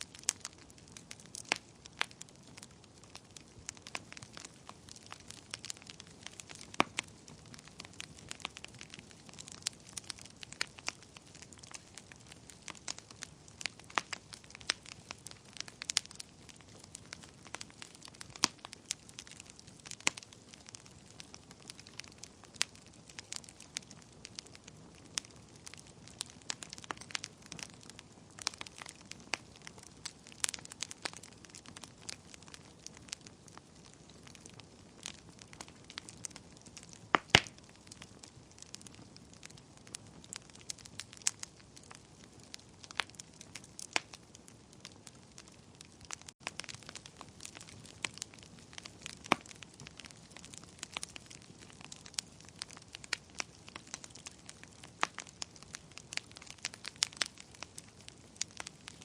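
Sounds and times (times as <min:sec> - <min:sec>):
burning logs crackling and popping: 0:00.0 - 0:59.0.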